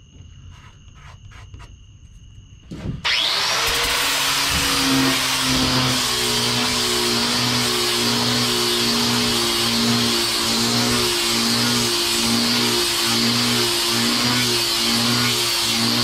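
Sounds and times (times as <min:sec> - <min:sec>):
angle grinder sanding: 0:03.1 - 0:16.0.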